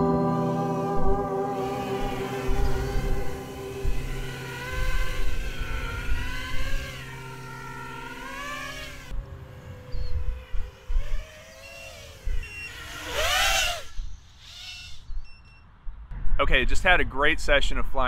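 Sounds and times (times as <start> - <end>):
quadcopter motors whining: 0.5 - 15.6.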